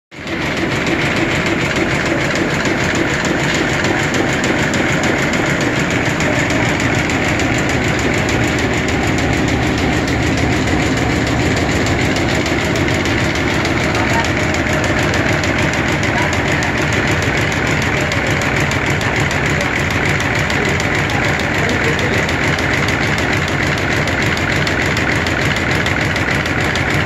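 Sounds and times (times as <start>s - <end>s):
tape machine mechanical clatter: 0.2s - 27.0s.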